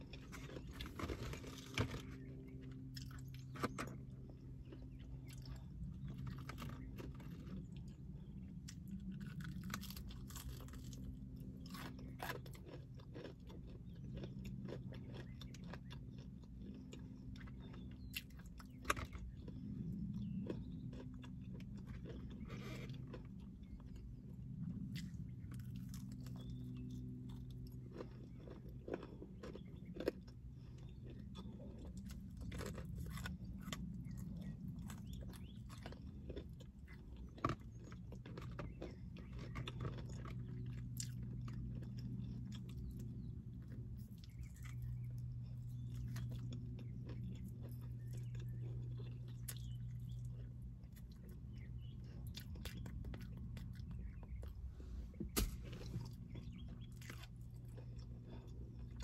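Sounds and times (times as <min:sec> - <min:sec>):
chewing crispy chicken: 0:00.0 - 0:59.0
low steady hum: 0:00.0 - 0:59.0.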